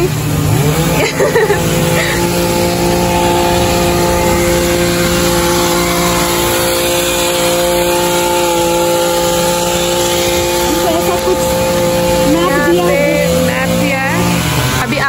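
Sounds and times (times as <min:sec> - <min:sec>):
brushcutter engine running: 0:00.0 - 0:15.0.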